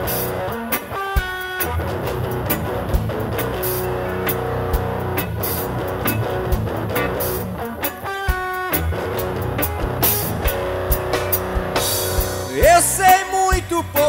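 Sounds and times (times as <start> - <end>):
reggae band playing: 0.0 - 14.0
sharp drum accents: 0.0 - 14.0.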